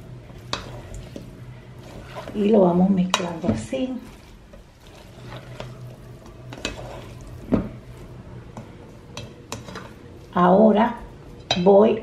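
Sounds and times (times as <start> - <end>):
spoon stirring moist food: 0.0 - 11.7.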